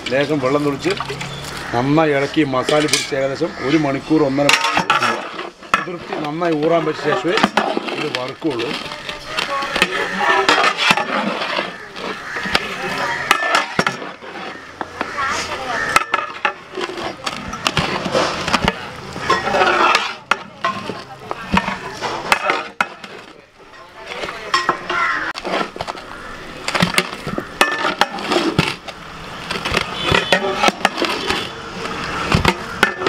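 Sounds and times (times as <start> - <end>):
metal spoon stirring and scraping pot: 4.4 - 23.3, 24.0 - 33.0.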